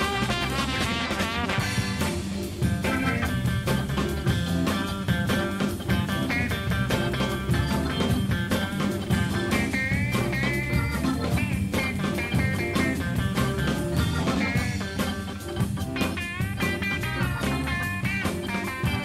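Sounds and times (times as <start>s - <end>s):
funky jazz with electric guitar: 0.0s - 19.0s.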